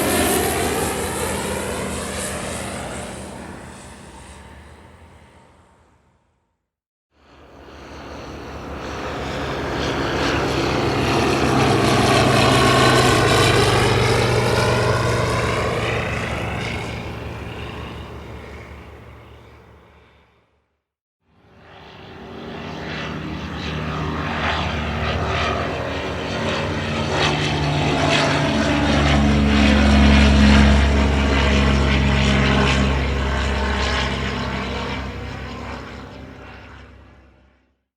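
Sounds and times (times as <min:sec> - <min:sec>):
propeller plane flying past: 0:00.0 - 0:06.4, 0:07.2 - 0:20.7, 0:21.3 - 0:37.8.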